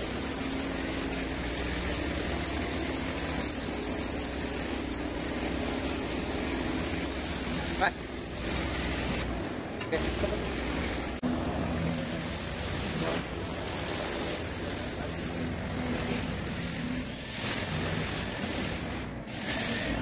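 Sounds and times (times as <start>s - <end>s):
constant hiss: 0.0s - 19.1s.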